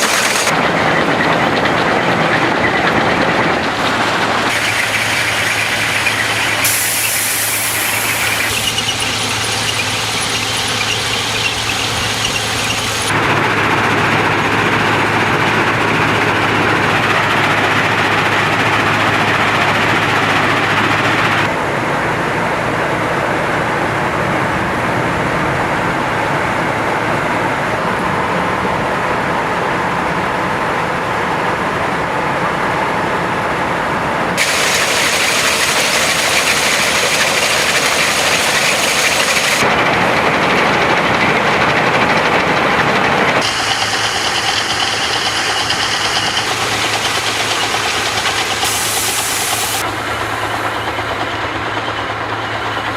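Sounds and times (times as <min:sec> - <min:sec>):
diesel engine and machinery noise: 0:00.0 - 0:52.9.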